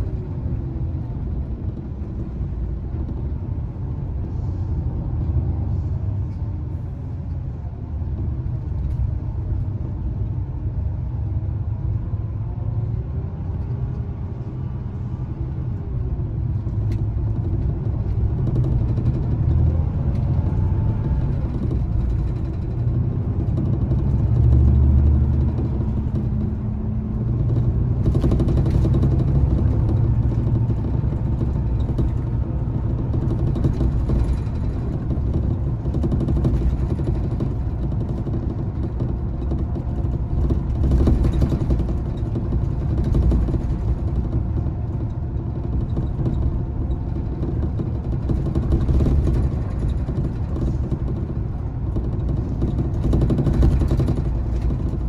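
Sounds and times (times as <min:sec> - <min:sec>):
coach engine rumble and road noise: 0:00.0 - 0:55.0.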